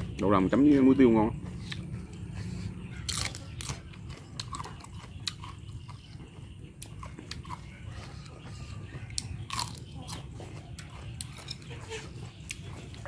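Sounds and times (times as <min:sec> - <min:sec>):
chewing crunchy vegetable: 0:00.0 - 0:13.0.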